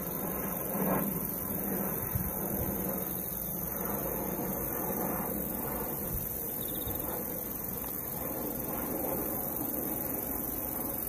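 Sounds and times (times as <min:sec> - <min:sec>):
low outdoor rumble with hiss: 0:00.0 - 0:11.0.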